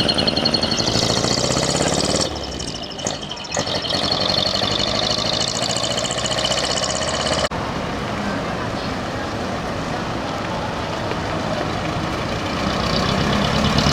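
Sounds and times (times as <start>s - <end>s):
truck diesel engines pulling away: 0.0s - 13.9s.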